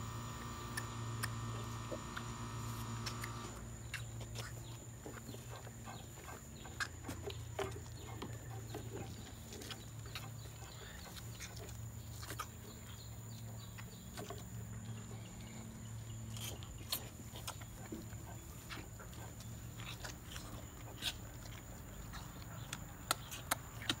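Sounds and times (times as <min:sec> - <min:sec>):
steady low hum: 0:00.0 - 0:24.0
calves sucking and smacking: 0:00.6 - 0:14.7, 0:15.4 - 0:24.0.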